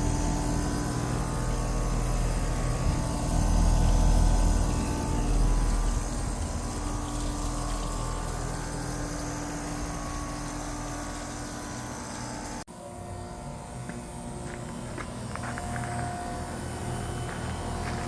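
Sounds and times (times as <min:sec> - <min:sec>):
air conditioner higher tone: 0:00.0 - 0:18.0
compressor hum: 0:00.0 - 0:18.0.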